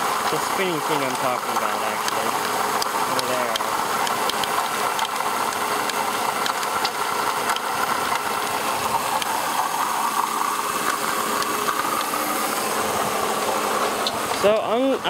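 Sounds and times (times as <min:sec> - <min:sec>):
car engine running: 0:00.0 - 0:15.0
grinding from spinning engine part: 0:00.0 - 0:15.0.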